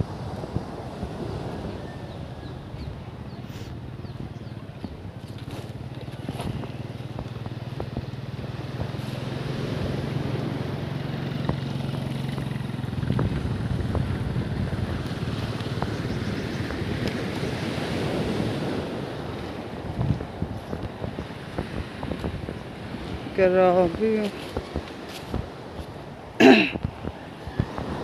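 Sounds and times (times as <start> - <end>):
sea washing on shore: 0.0 - 28.0
wind on microphone: 0.0 - 28.0.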